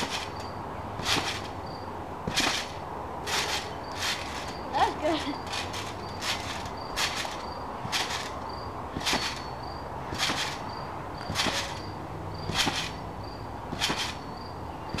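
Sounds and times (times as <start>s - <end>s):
trampoline springs rebounding: 0.0s - 15.0s.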